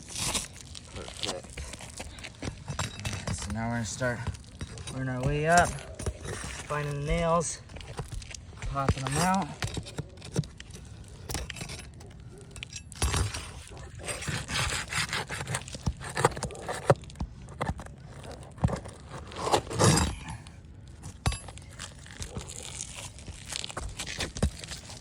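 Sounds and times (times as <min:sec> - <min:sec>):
roofing nails pried out: 0:00.0 - 0:25.0.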